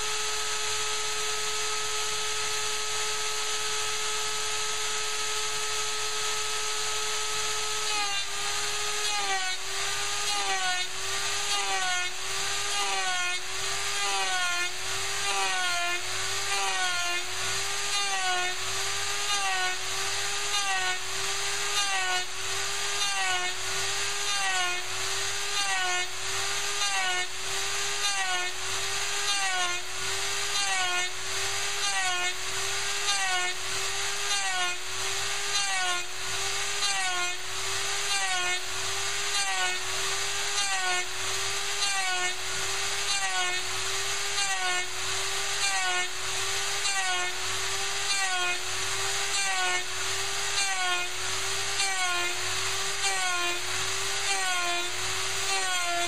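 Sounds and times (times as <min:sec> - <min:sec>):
router cutting into wood: 0:00.0 - 0:56.0.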